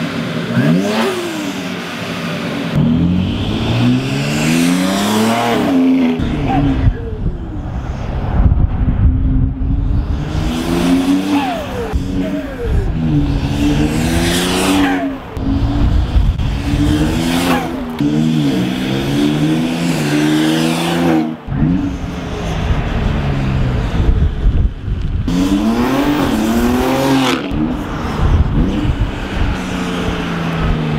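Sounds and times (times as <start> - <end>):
car engine accelerating hard: 0.0 - 30.9.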